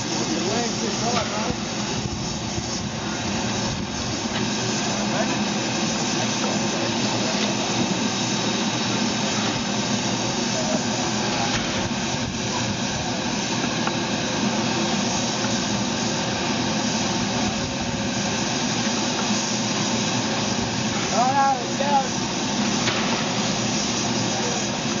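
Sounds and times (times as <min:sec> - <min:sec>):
steam locomotive hissing steam: 0:00.0 - 0:25.0.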